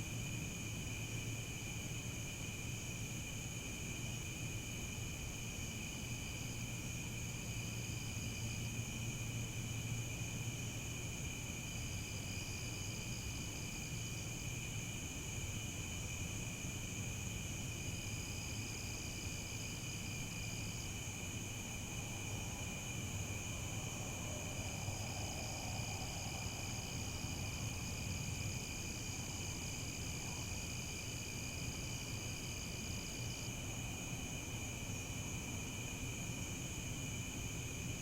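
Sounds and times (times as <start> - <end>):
crickets chirping: 0.0 - 38.0
high-pitched cricket chirping: 0.0 - 38.0.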